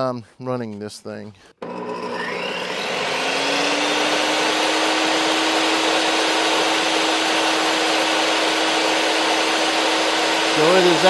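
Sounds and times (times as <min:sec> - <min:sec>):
table saw running: 0:01.6 - 0:11.0.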